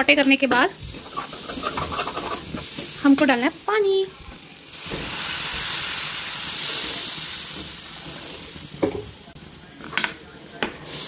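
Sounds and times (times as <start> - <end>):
water sizzling in a hot pan: 0.0 - 11.0.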